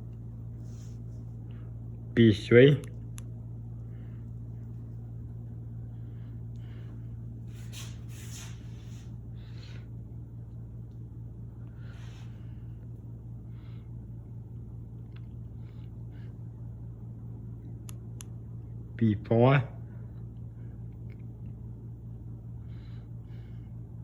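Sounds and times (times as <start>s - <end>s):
ceiling fan humming: 0.0s - 24.0s.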